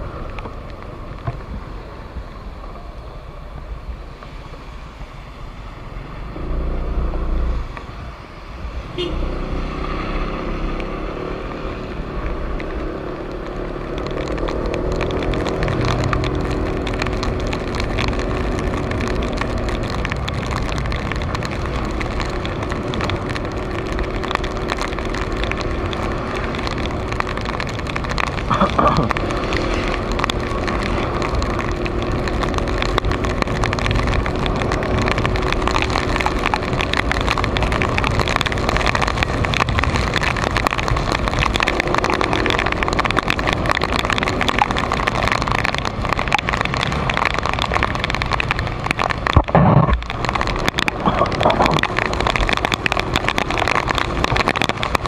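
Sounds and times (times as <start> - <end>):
tyre noise on wet road: 0.0 - 55.0.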